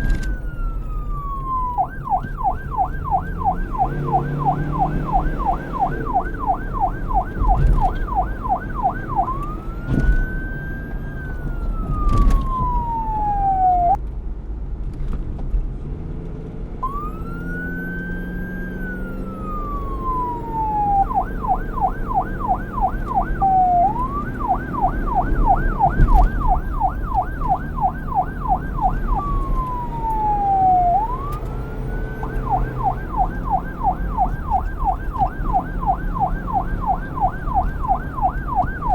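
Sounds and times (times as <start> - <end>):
police siren yelp and wail: 0.0 - 14.0, 16.8 - 38.9.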